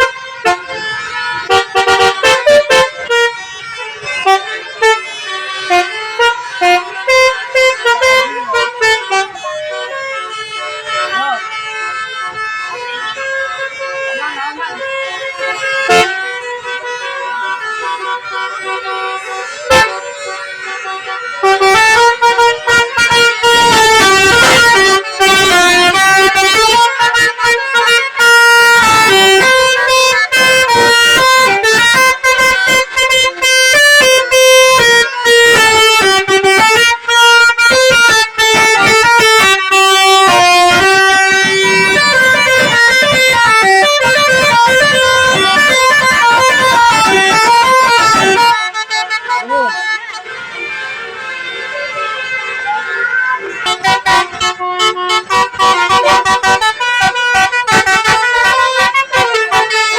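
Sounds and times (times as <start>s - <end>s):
bus horn playing a melody: 0.0s - 59.9s.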